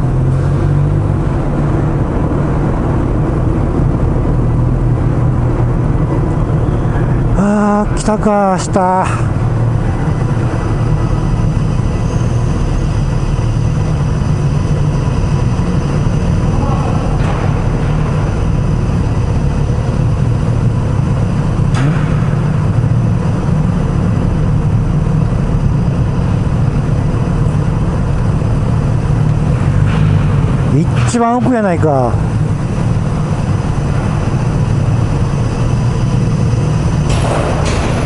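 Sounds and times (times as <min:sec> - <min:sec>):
motorcycle engine low drone: 0:00.0 - 0:38.0.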